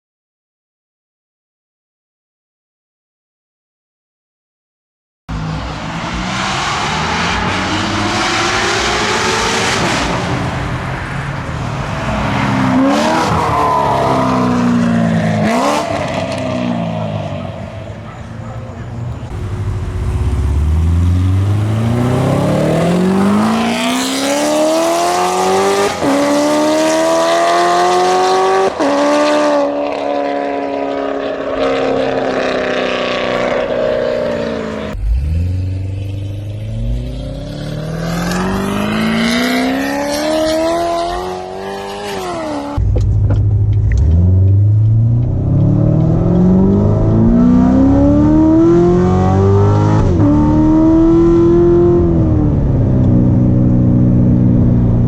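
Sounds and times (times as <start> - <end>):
car engine accelerating hard: 5.3 - 55.0.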